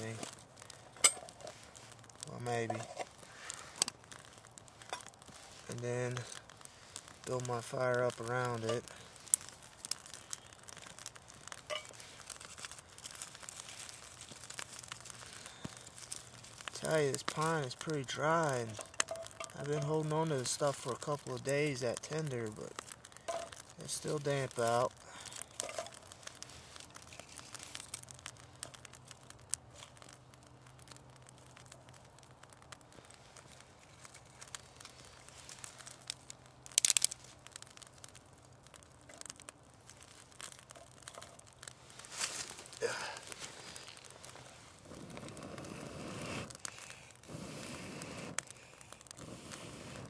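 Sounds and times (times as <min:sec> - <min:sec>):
twigs clicking and rustling: 0:00.0 - 0:45.4
small fire crackling: 0:00.0 - 0:50.0.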